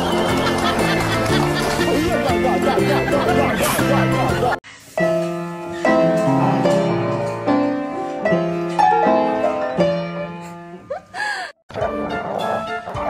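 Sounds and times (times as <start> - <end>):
upright piano melody: 0.0 - 13.0.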